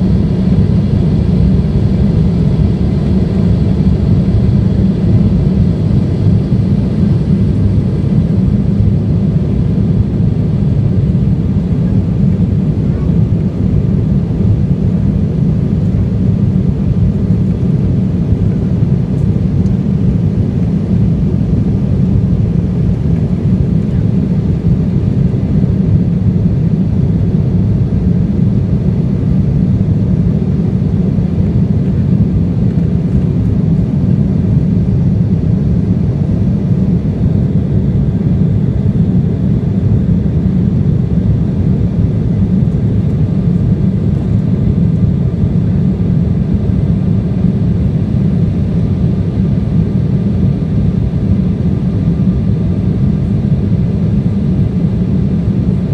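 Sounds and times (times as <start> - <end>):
airliner cabin rumble: 0.0 - 55.9
faint steady whine: 0.0 - 55.9.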